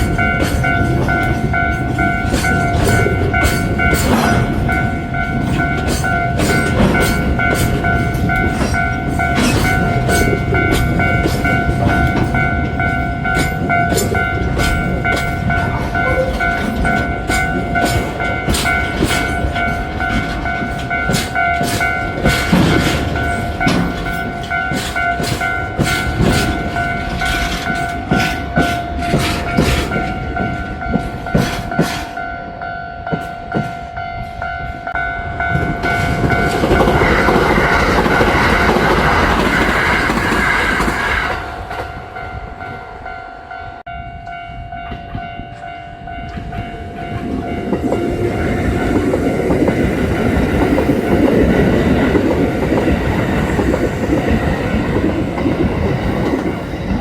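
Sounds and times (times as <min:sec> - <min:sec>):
train wheels clicking over rail joints: 0:00.0 - 0:43.0, 0:43.8 - 0:57.0
train rushing: 0:00.0 - 0:57.0.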